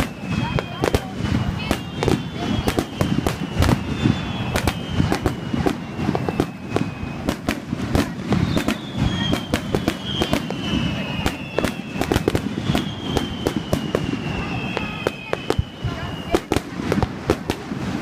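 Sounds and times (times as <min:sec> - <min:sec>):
fireworks bangs and crackling: 0:00.0 - 0:18.0
fireworks whistling: 0:00.0 - 0:18.0.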